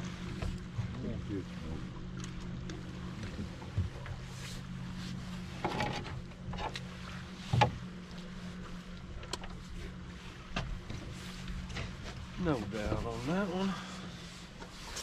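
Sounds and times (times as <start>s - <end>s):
electric trolling motor humming: 0.0s - 15.0s.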